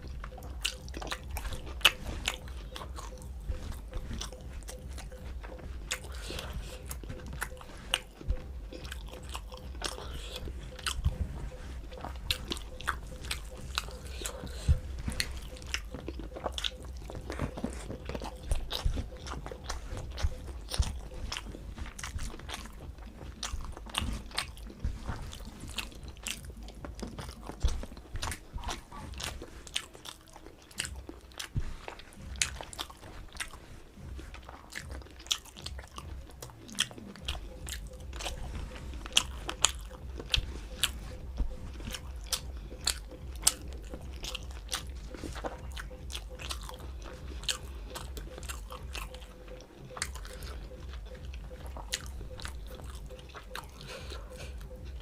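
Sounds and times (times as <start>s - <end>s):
mouth smacks: 0.0s - 55.0s
person chewing crunchy food: 0.0s - 55.0s
steady low hum: 0.0s - 55.0s.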